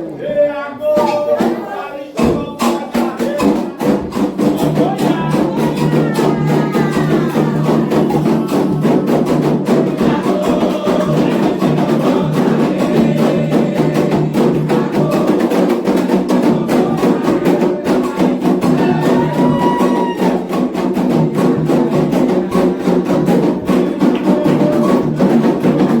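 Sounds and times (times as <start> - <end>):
voices singing: 0.0 - 26.0
hand drums beating: 0.9 - 26.0.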